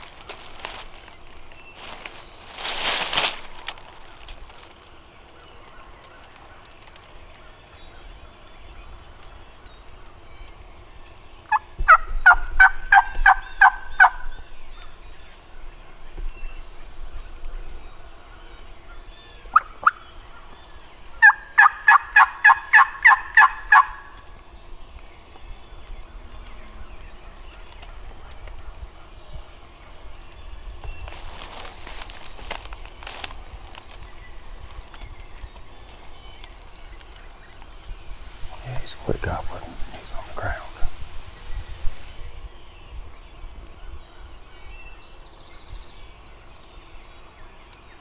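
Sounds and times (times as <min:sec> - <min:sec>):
rustle: 0:00.0 - 0:48.0.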